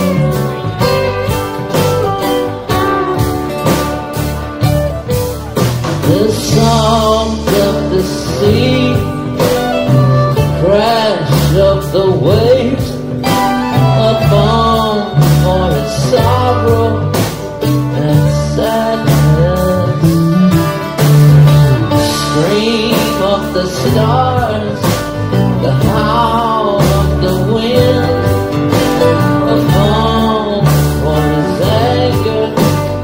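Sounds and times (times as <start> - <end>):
steady bass: 0.0 - 33.0.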